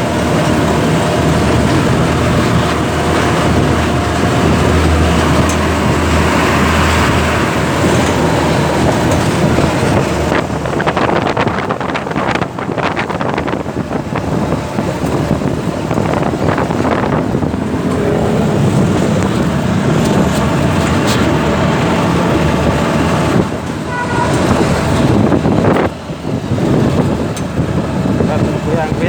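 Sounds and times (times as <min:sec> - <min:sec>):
motor cart engine and road noise: 0:00.0 - 0:29.0
rattling clatter over rough road: 0:00.0 - 0:29.0
wind on microphone: 0:00.0 - 0:29.0.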